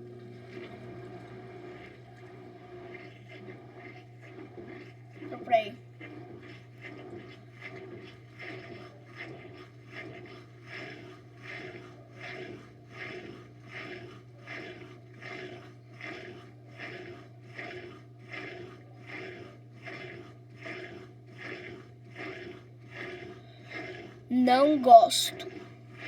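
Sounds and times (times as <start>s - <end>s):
washing machine low hum: 0.0s - 26.0s
washing machine swishing: 2.6s - 26.0s.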